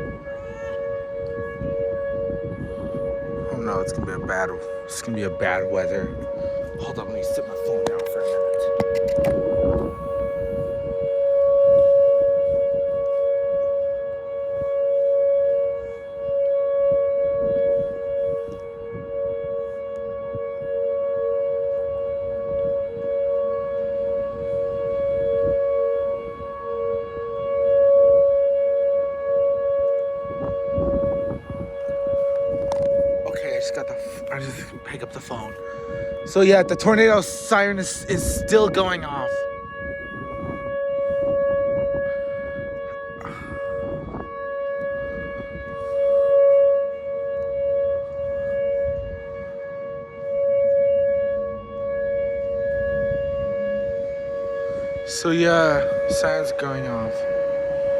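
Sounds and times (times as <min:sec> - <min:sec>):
warning siren: 0:00.0 - 0:57.9.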